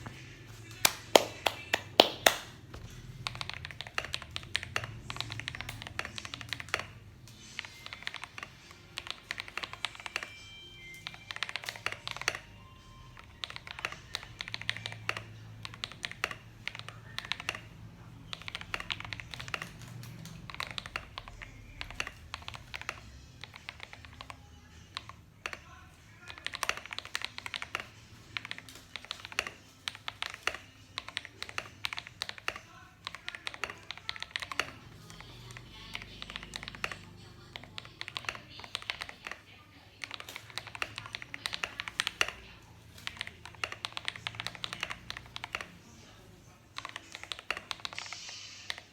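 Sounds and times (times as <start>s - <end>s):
mechanical keyboard typing: 0.7s - 45.9s, 46.7s - 48.9s.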